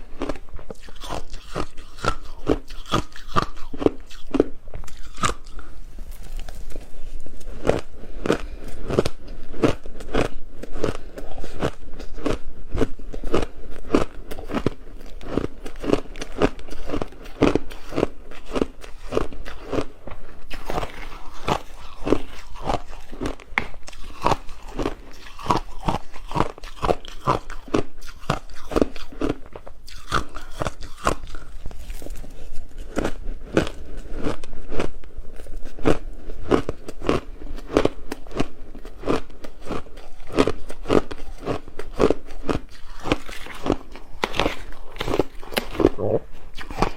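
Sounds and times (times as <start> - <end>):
ice being chewed crunching: 0.0 - 46.9.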